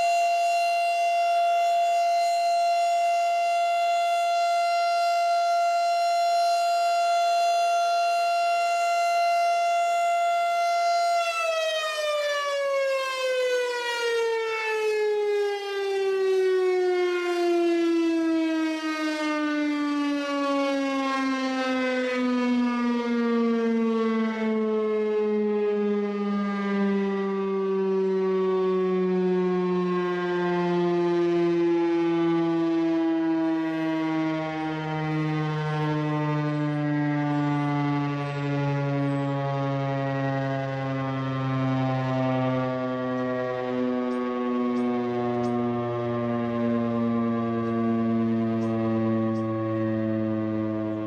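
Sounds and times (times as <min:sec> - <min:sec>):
warning siren winding down: 0:00.0 - 0:51.0.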